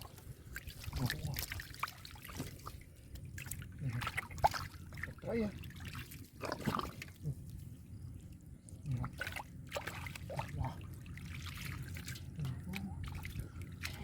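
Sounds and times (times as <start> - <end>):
muddy water sloshing: 0.0 - 14.0
small wet splashes: 0.0 - 14.0.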